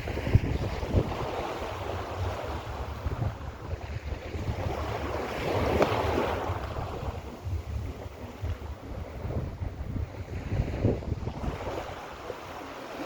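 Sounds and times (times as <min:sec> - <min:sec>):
sea waves washing onto shore: 0:00.0 - 0:13.0
wind buffeting microphone: 0:00.0 - 0:13.0.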